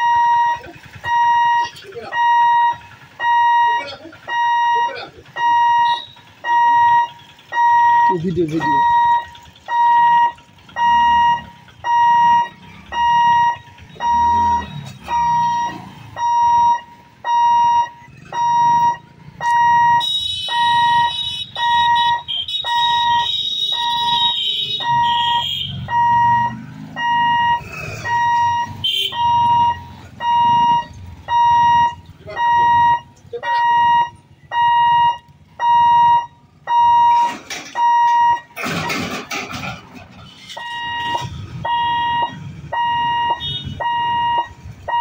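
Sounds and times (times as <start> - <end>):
level-crossing alarm beeping: 0.0 - 39.1, 40.4 - 45.0.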